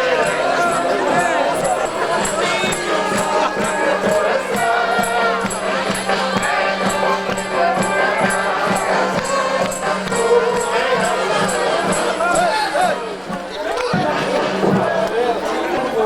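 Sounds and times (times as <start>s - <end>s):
high percussion beat: 0.0s - 15.2s
voices singing: 0.0s - 16.0s.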